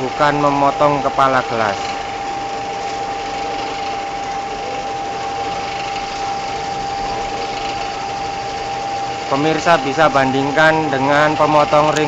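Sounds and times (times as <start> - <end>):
cutting machine running: 0.0 - 12.0.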